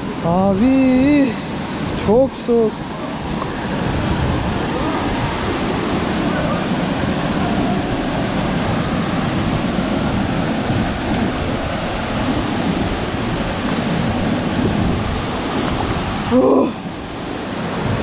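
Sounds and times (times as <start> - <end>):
waterfall rushing into pool: 0.0 - 18.0.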